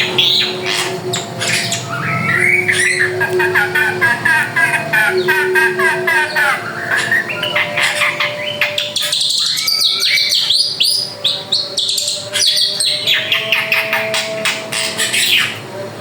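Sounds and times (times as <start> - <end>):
bird singing fast varied song: 0.0 - 15.6.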